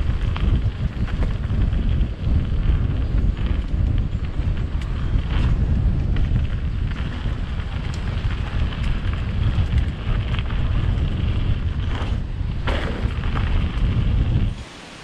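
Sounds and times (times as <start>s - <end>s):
bike clicks and rattles: 0.0s - 14.6s
tyres rumbling on dirt: 0.0s - 15.0s
wind buffeting microphone: 0.0s - 15.0s.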